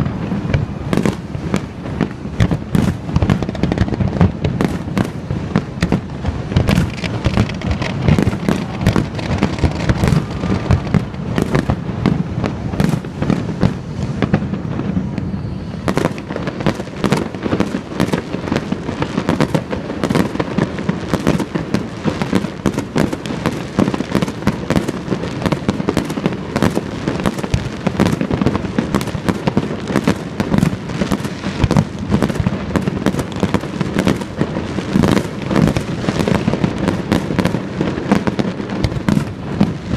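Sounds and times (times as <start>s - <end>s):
fireworks exploding: 0.0s - 39.9s.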